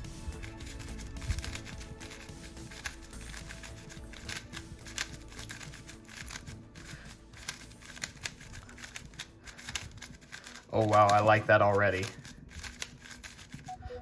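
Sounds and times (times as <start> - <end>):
plastic speed cube clicking: 0.3 - 13.8.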